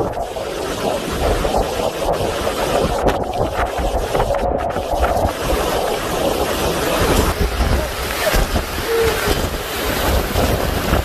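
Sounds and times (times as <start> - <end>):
heavy rain: 0.0 - 11.0
hurricane-force wind: 0.0 - 11.0
wind gusts buffeting microphone: 0.0 - 11.0.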